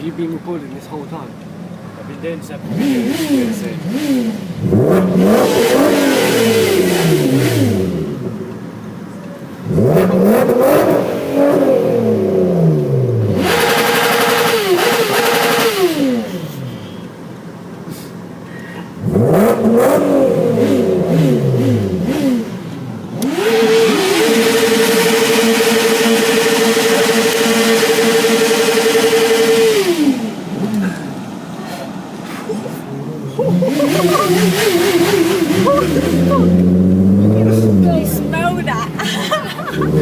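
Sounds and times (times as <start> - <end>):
motorcycle engine revving: 2.5 - 8.5, 9.6 - 16.7, 19.0 - 31.5, 33.3 - 40.0.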